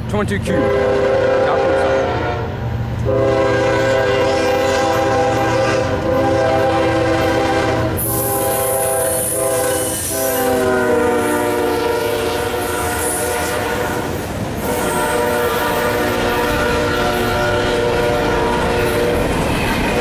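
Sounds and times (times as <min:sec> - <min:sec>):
locomotive air horn blasts: 0:00.5 - 0:19.4.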